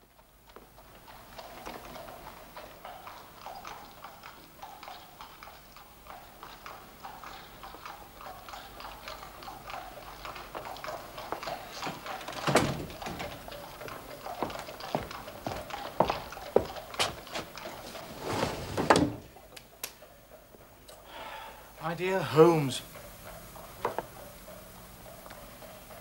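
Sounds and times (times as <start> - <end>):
horse hooves clip-clopping: 0.0 - 20.9, 22.9 - 26.0.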